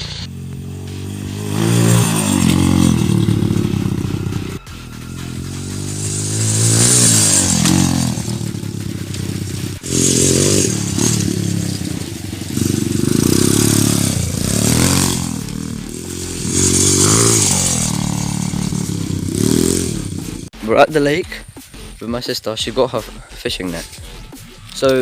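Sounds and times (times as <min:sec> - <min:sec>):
dirt bike engine revving: 0:00.0 - 0:20.6.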